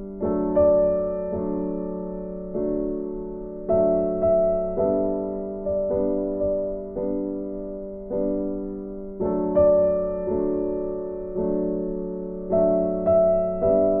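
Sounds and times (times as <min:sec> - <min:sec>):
slow soft piano chords: 0:00.0 - 0:14.0.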